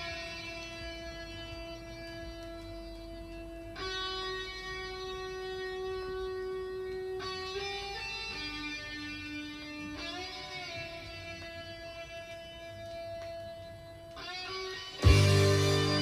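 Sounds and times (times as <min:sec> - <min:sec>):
slow instrumental lead melody: 0:00.0 - 0:16.0.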